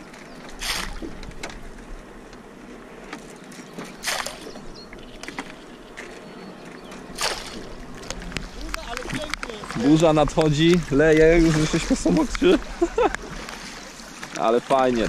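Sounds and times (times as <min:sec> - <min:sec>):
faint oar knocks: 0:00.0 - 0:15.0
oars splashing in water: 0:00.0 - 0:15.0.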